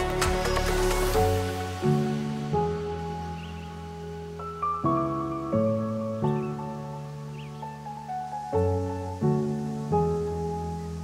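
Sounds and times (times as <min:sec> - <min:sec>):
calm instrumental music: 0:00.0 - 0:11.0.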